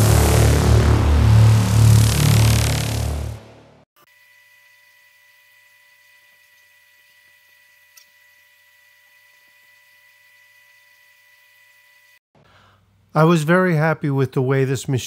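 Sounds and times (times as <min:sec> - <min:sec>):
electrical whine and hum: 0:00.0 - 0:12.2.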